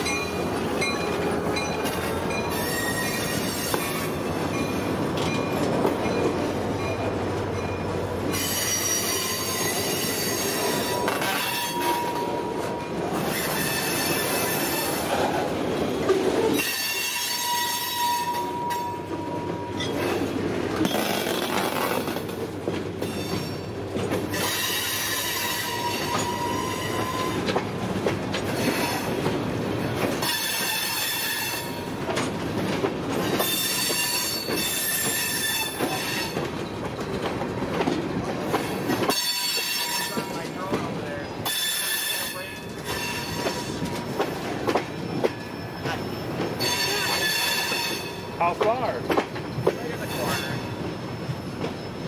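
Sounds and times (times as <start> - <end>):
train wheels squealing: 0.0 - 15.4, 16.5 - 20.2, 23.0 - 27.6, 28.5 - 29.2, 30.2 - 32.0, 33.2 - 37.2, 38.4 - 52.0
train rumble: 0.0 - 52.0.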